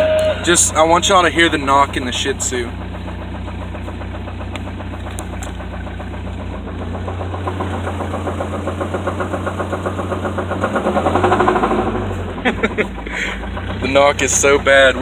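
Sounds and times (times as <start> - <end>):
engine rod knocking: 0.4 - 15.0.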